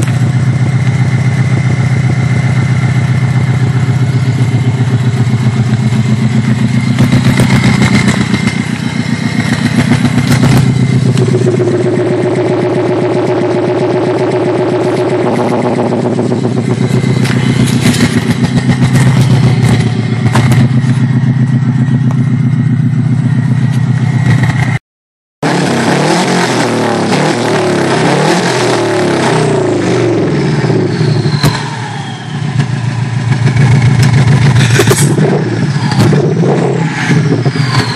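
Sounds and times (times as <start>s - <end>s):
loud car engine revving: 0.0s - 24.8s, 25.4s - 37.9s.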